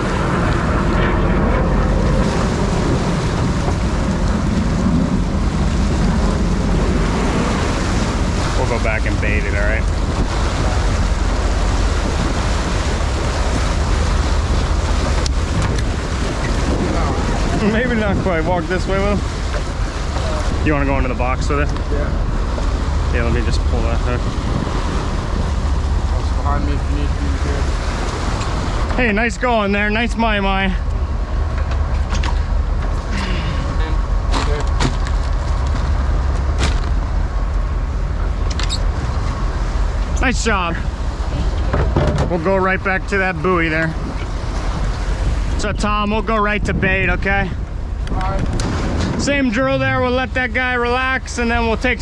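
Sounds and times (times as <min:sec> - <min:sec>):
boat engine rumble: 0:00.0 - 0:52.0
rushing sea water: 0:00.0 - 0:52.0
wind noise on microphone: 0:00.0 - 0:52.0.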